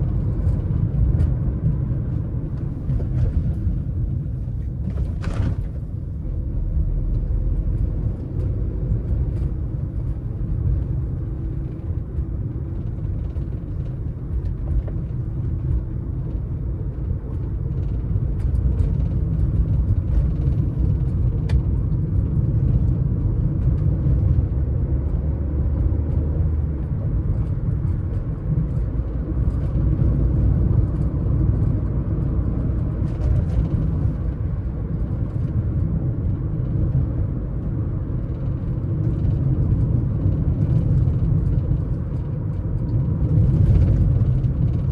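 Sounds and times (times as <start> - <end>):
car tyres and engine rumble: 0.0 - 44.9.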